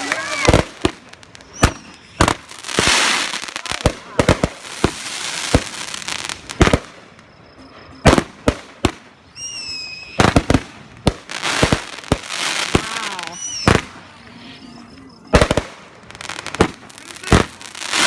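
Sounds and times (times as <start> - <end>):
firework bursts and bangs: 0.0 - 7.3, 7.9 - 14.3, 15.3 - 18.0
firework crackling: 0.0 - 7.3, 8.1 - 18.0
whistling firework: 0.0 - 18.0.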